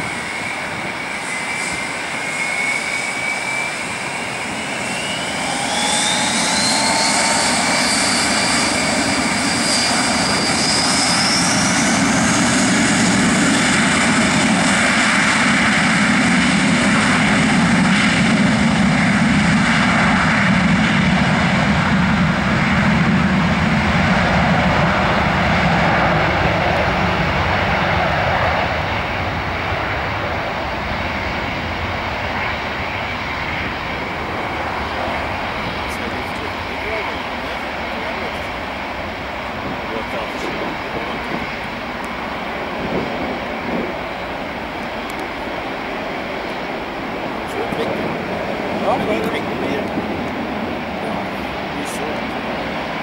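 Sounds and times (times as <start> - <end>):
jet engines spooling up: 0.0 - 53.0
loud jet noise with deep rumble: 0.0 - 53.0.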